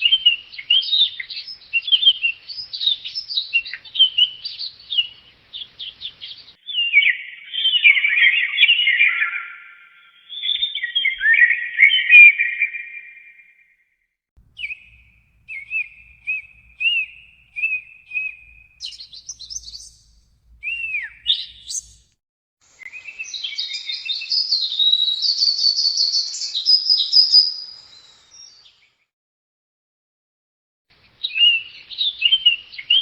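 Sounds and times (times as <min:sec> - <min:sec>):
songbird chirping and warbling: 0:00.0 - 0:13.7, 0:14.5 - 0:22.1, 0:22.7 - 0:29.0, 0:31.2 - 0:33.0.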